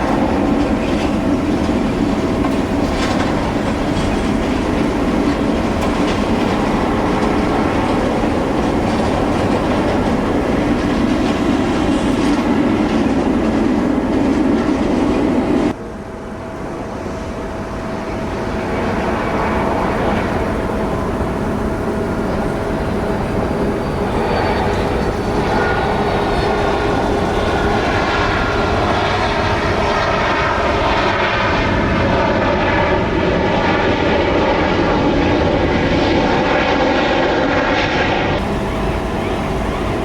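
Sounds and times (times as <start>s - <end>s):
high whining engine tones: 0.0s - 31.8s, 38.3s - 40.0s
jet engines rushing: 0.0s - 40.0s.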